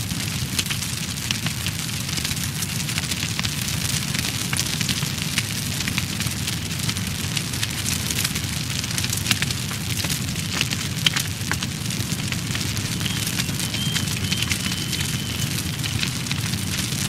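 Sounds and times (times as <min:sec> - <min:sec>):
fire roaring and crackling: 0:00.0 - 0:17.0.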